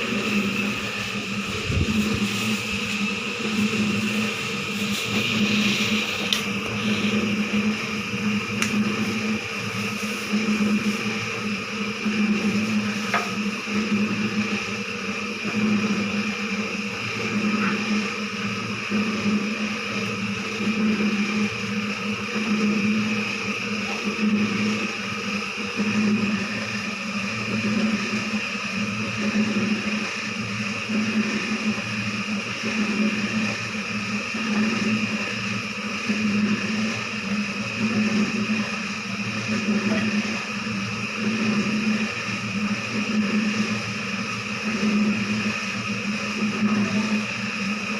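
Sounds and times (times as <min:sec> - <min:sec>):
electric motor humming: 0:00.0 - 0:47.9.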